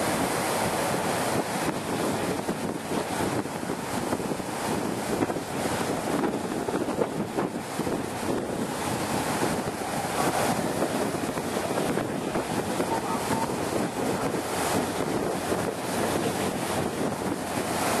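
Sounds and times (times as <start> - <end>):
water washing: 0.0 - 18.0
wind buffeting microphone: 0.0 - 18.0.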